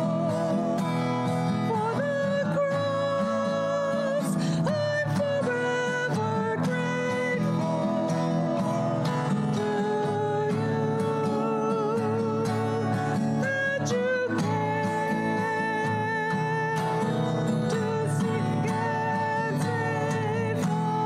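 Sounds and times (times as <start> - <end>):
guitar accompaniment: 0.0 - 21.0
person singing praise song: 0.0 - 21.0.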